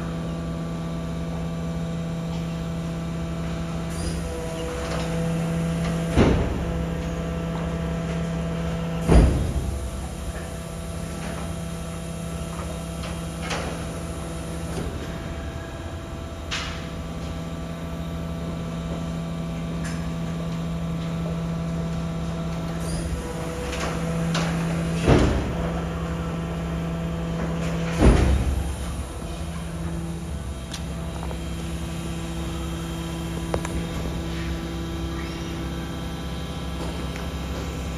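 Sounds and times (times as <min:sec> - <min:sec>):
garbage truck electric hum: 0:00.0 - 0:37.9.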